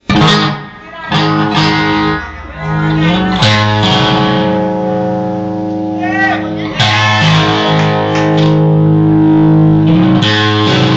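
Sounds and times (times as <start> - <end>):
guitar-led band music: 0.0 - 10.9.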